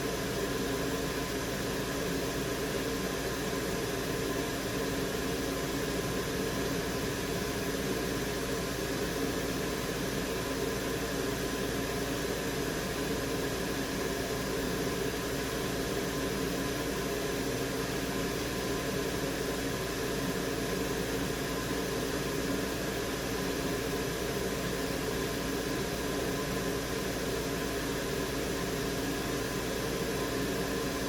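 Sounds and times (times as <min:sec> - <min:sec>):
fan and airflow noise: 0:00.0 - 0:31.0.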